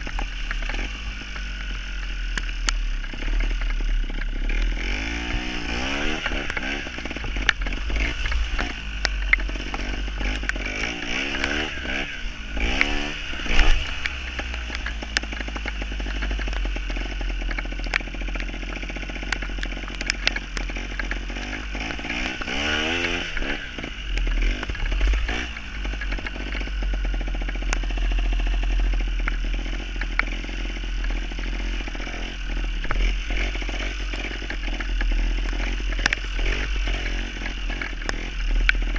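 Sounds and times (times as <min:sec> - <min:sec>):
motorcycle engine revving: 0:00.0 - 0:38.9
sharp clicks: 0:00.0 - 0:38.9.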